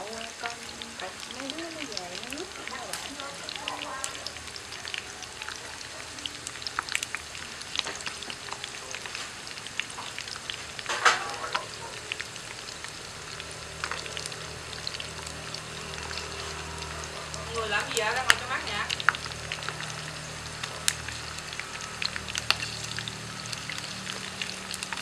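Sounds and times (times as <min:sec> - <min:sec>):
meat sizzling in hot oil: 0:00.0 - 0:25.0
oil crackling pops: 0:01.5 - 0:05.2, 0:06.3 - 0:25.0.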